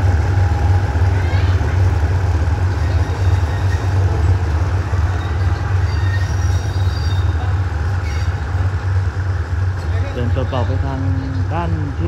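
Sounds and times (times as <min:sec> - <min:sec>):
locomotive diesel engine rumbling: 0:00.0 - 0:12.0.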